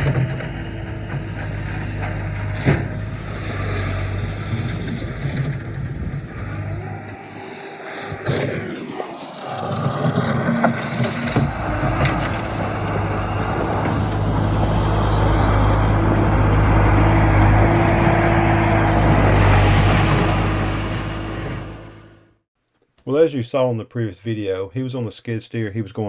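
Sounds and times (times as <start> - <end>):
diesel engine under load: 0.0 - 8.8, 9.4 - 22.4.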